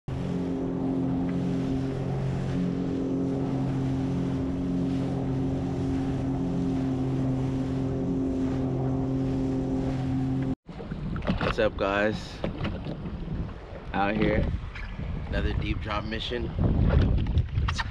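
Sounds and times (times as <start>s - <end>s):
rushing water: 0.1s - 15.0s
jet ski engine drone: 0.1s - 16.3s
wind on microphone: 0.1s - 17.9s.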